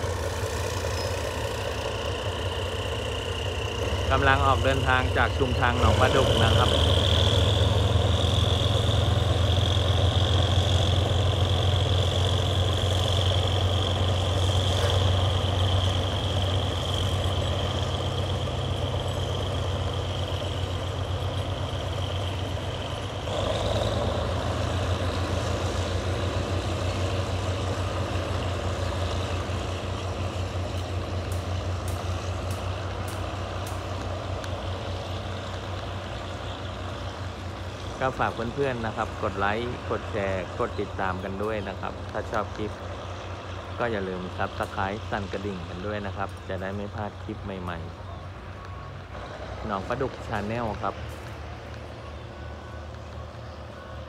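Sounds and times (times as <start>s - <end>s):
locomotive engine rumble: 0.0s - 54.0s.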